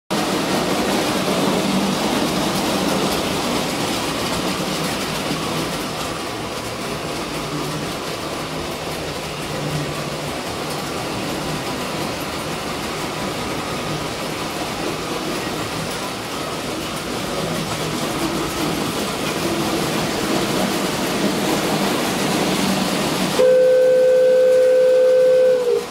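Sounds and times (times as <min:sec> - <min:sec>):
model train whirring on metal track: 0:00.1 - 0:25.9.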